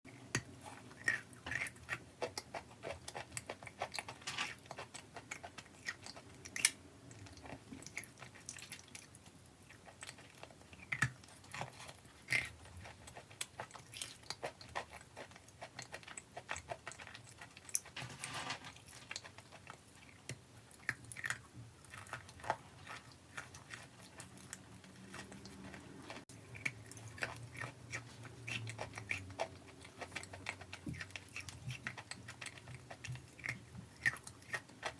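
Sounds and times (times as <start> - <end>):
person crunching hard food: 0.2 - 34.9.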